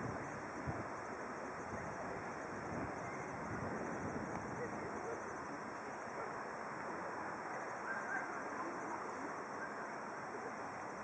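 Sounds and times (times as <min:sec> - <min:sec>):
outdoor ambient hiss: 0:00.0 - 0:11.0.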